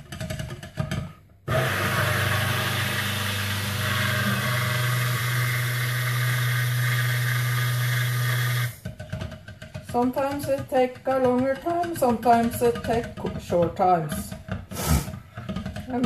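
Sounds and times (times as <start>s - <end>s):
stick blender humming: 1.5s - 16.0s.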